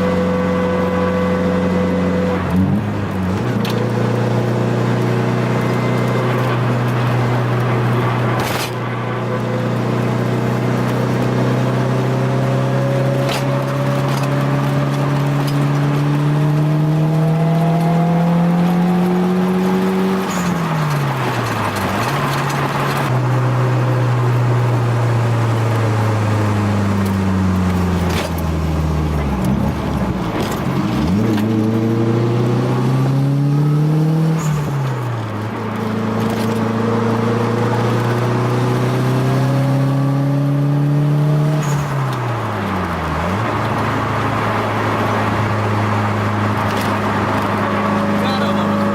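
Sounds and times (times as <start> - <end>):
car engine accelerating through gears: 0.0 - 48.9.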